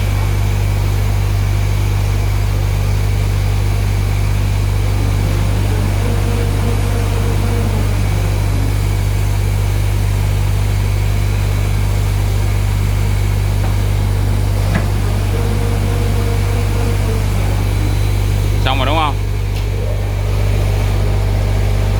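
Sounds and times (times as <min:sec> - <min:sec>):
folding machine humming: 0:03.2 - 0:21.9.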